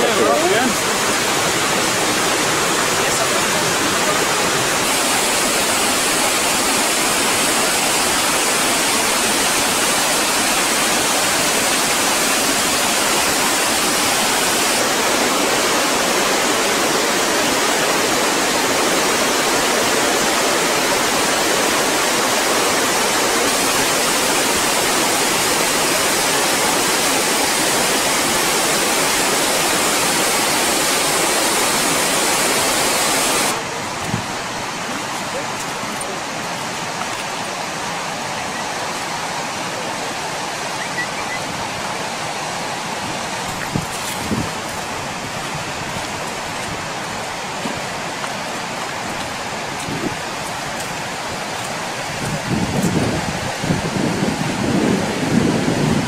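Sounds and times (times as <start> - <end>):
river rushing over boulders: 0.0 - 56.0.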